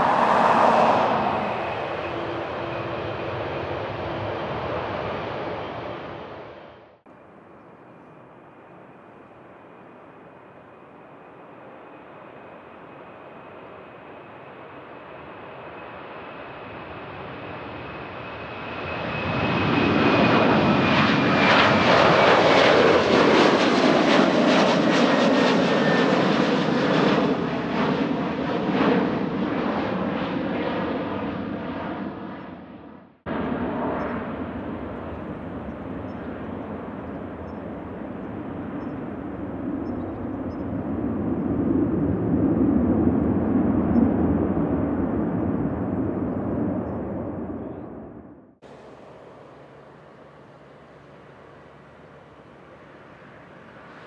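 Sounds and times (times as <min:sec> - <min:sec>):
jet airliner engine whine: 0:00.0 - 0:54.0.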